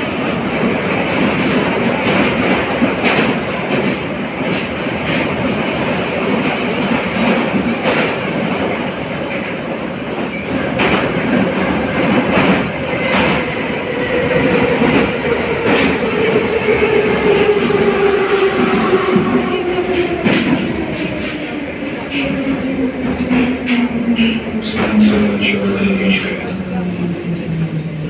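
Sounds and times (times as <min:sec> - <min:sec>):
train rumbling in tunnel: 0:00.0 - 0:28.0.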